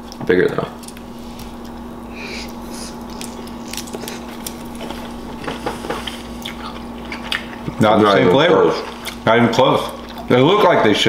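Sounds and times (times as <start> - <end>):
steady low hum: 0.0 - 11.0
people chewing: 0.8 - 11.0.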